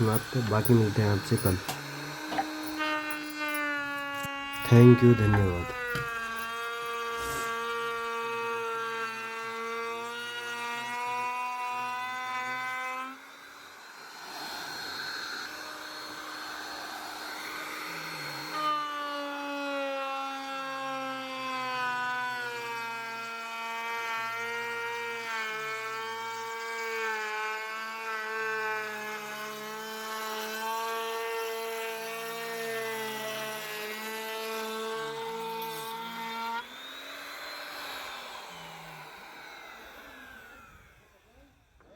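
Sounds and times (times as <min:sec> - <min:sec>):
power tool motor whining: 0:00.0 - 0:41.9.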